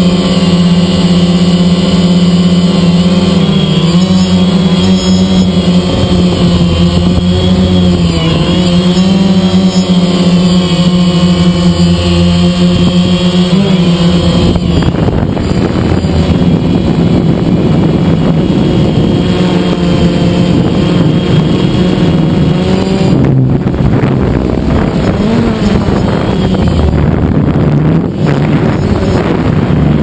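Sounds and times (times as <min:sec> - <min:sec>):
drone propellers buzzing: 0:00.0 - 0:30.0.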